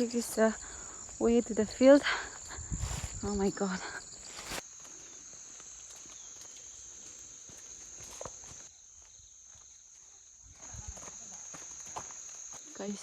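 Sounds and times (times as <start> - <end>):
faint footsteps on wet path: 0.0 - 13.0
insects droning: 0.0 - 13.0.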